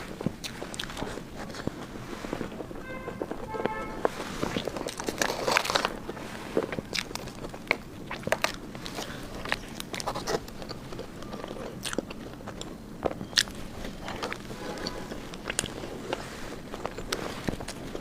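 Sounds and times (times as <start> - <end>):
person chewing food: 0.0 - 18.0
mouth clicks and smacks: 2.5 - 18.0.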